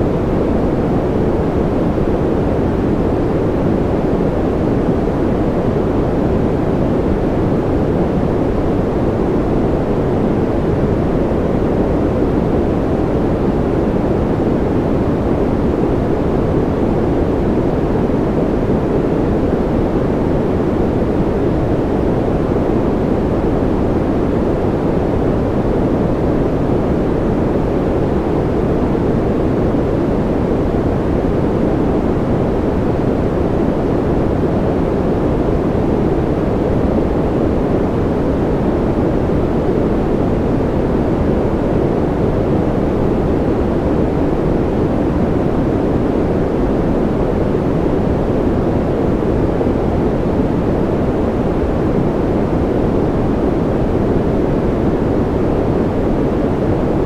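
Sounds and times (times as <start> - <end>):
deep white noise: 0.0 - 57.0.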